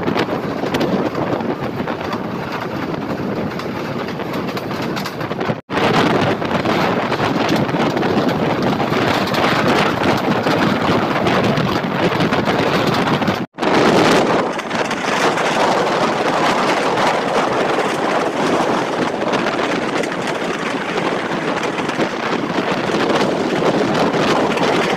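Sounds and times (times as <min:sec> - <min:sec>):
train running noise: 0:00.0 - 0:24.9
wind rushing over microphone: 0:00.0 - 0:24.9.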